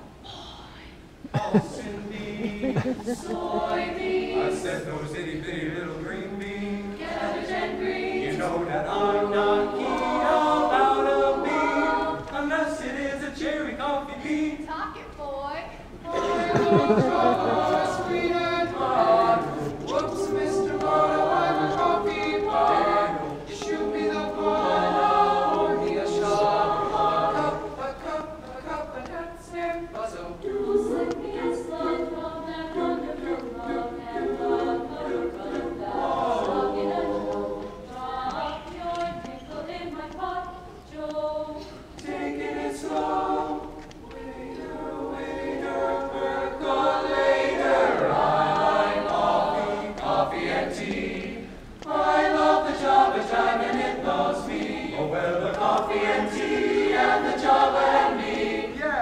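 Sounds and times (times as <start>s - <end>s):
mixed choir singing a cappella: 1.3s - 15.0s, 15.7s - 59.0s.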